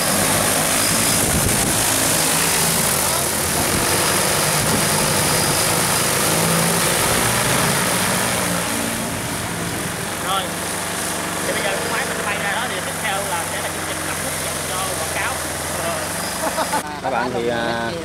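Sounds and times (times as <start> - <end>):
drone rotors whirring: 0.0 - 16.8.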